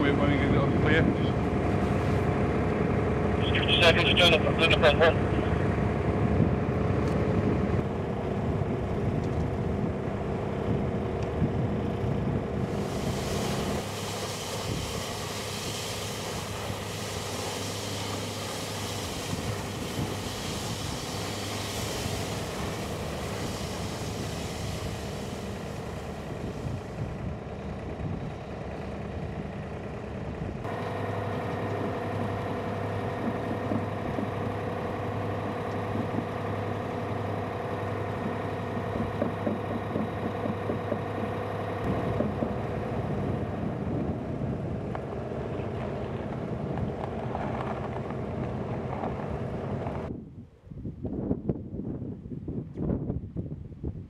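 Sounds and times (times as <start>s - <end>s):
heavy drilling machinery engine drone: 0.0s - 50.1s.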